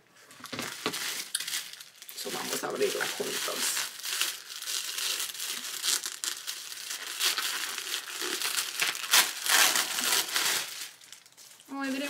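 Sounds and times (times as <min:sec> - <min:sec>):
tissue paper crinkling and tearing: 0:00.4 - 0:12.0.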